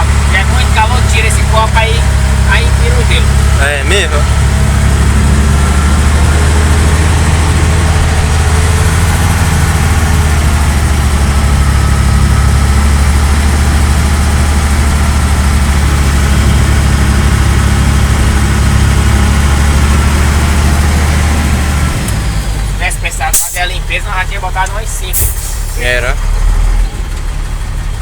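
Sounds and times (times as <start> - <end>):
truck diesel engine idling: 0.0 - 28.0.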